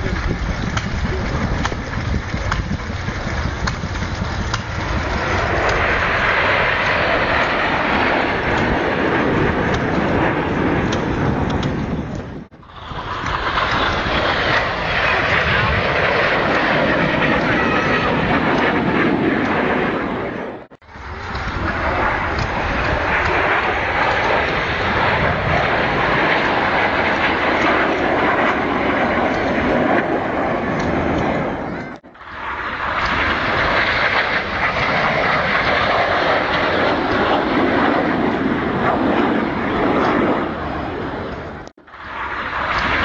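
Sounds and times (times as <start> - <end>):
jet roar overhead: 0.0 - 43.0.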